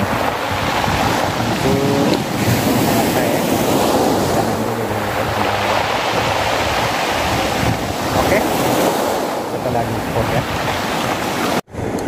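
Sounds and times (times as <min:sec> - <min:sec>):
surf breaking on stony beach: 0:00.0 - 0:12.0
wind blowing over microphone: 0:00.0 - 0:12.0.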